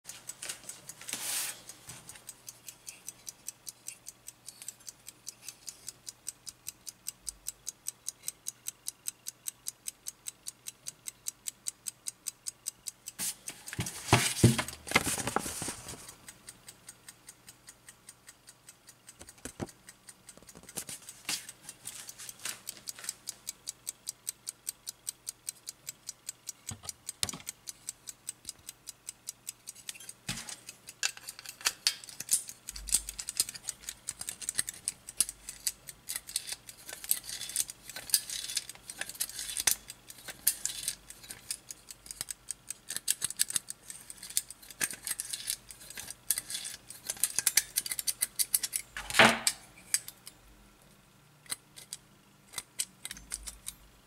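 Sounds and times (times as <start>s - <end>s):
clock ticking steadily: 0.0s - 54.0s
irregular metallic clicking: 0.1s - 50.4s, 51.4s - 53.9s.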